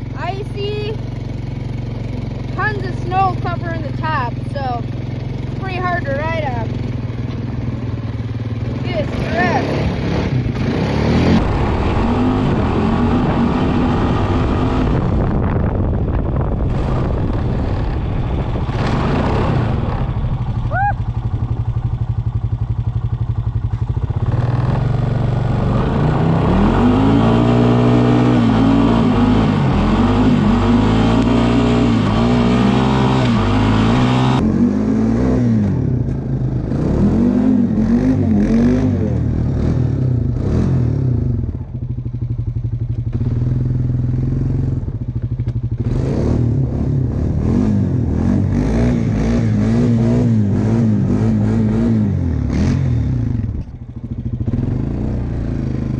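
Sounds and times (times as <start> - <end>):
atv engine revving up and down: 0.0 - 55.9.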